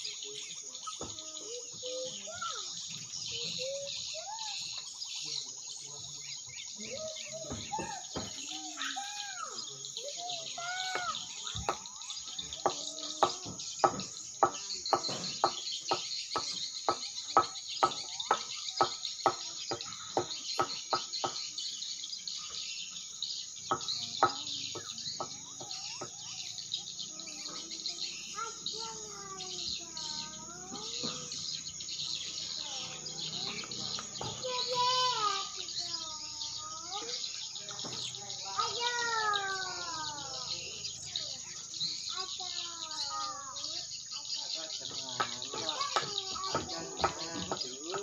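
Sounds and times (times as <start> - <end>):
other bird calls: 0.0 - 48.0.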